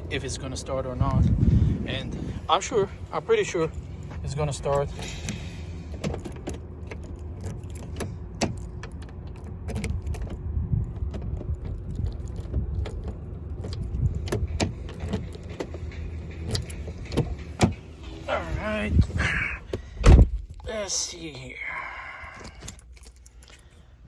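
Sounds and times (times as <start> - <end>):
car engine starting: 0.0 - 21.1
low steady rumble: 0.0 - 24.0
clicks and rattles in car cabin: 0.1 - 20.7.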